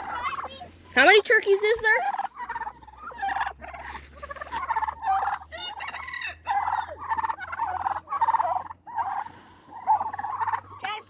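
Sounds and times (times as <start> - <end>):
turkeys gobbling: 0.0 - 11.0.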